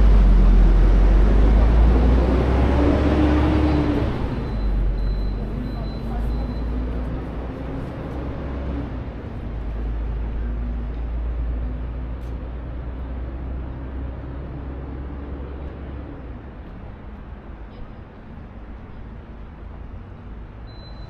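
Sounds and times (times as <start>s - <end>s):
road noise: 0.0s - 21.0s
vehicle engine low rumble: 0.0s - 21.0s.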